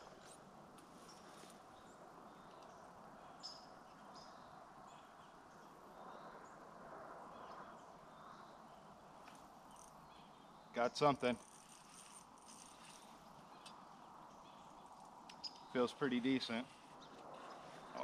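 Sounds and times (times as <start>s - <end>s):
faint outdoor hiss: 0.0s - 18.0s
distant bird chirps: 1.0s - 6.7s, 7.3s - 18.0s.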